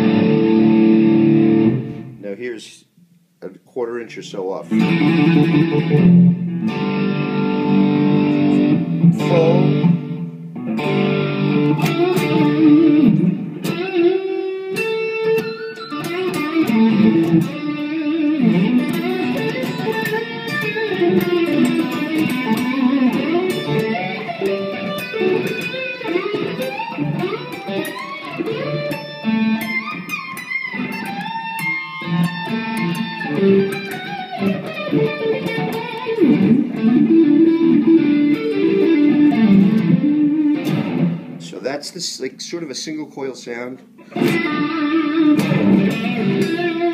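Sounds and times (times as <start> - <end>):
electric guitar playing: 0.0 - 2.2, 4.7 - 41.8, 43.8 - 46.9.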